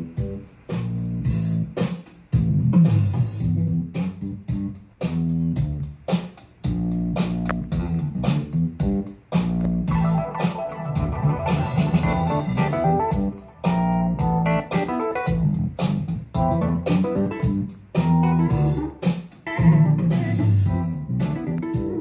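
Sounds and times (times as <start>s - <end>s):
instrumental guitar and bass music: 0.0s - 22.0s.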